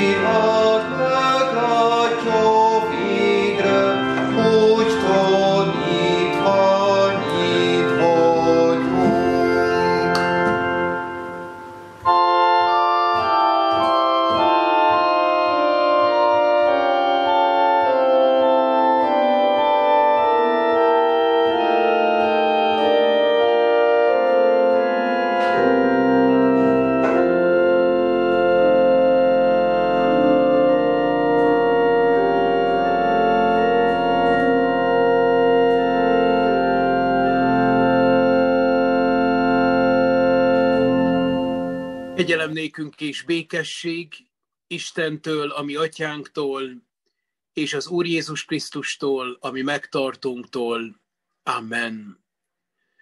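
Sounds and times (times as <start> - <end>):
organ playing slow held chords: 0.0 - 43.2
deep organ pedal bass notes: 0.0 - 43.4
hymn singing: 0.0 - 46.8.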